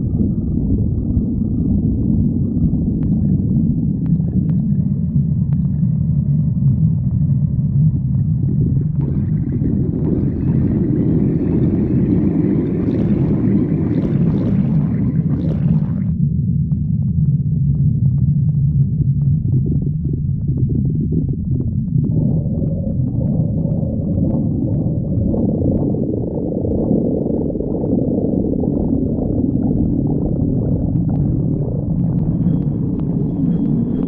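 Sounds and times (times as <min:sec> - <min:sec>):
stomach gurgling: 0:00.0 - 0:34.0
stomach rumbling: 0:00.0 - 0:34.0.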